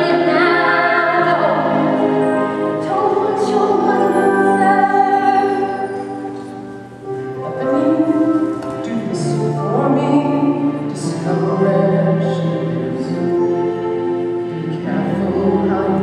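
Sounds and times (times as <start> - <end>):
musical accompaniment: 0.0 - 16.0
musical theatre singing: 0.0 - 16.0.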